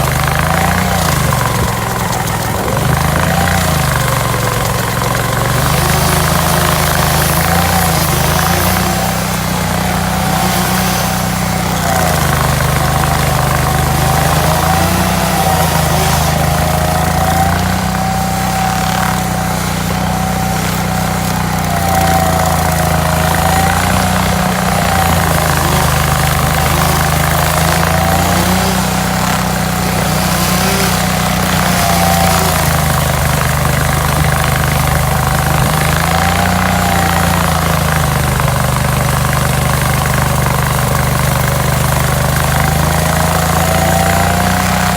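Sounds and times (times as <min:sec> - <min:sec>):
stump grinder engine labouring: 0:00.0 - 0:44.9.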